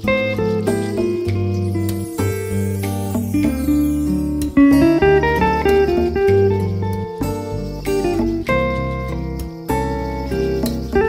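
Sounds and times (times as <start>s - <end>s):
plucked string instrumental music: 0.0s - 11.0s.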